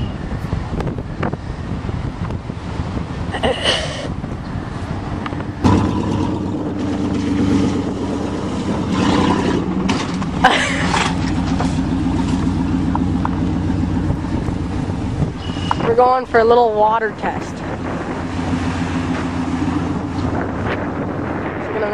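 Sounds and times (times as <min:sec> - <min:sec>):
pickup truck engine droning: 0:00.0 - 0:21.9.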